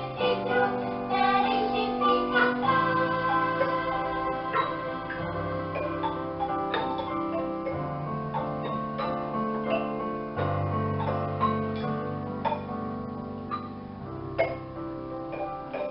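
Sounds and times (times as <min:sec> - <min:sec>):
held low chords: 0:00.0 - 0:15.9
struck fading notes: 0:00.0 - 0:15.9.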